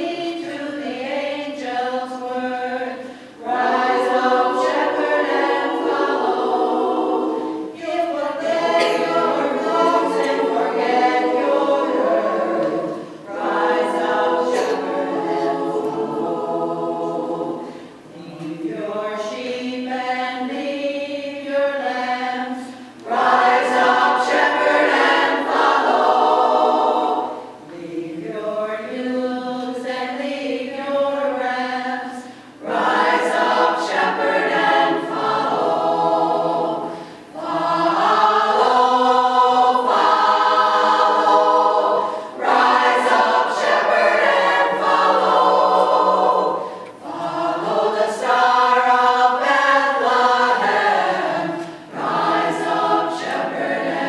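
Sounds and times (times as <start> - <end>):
women's choir singing: 0.0 - 54.0.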